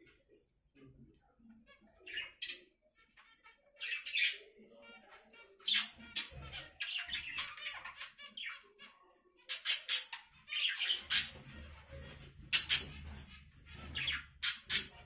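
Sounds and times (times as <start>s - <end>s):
budgerigars chattering and squawking: 2.0s - 15.0s.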